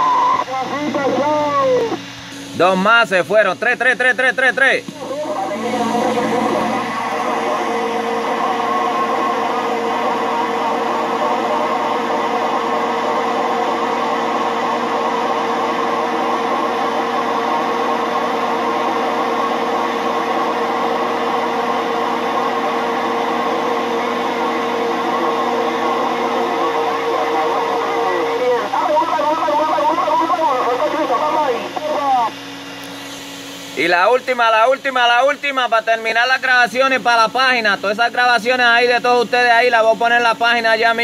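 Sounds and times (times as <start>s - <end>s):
constant hum-like tone: 0.0s - 40.8s.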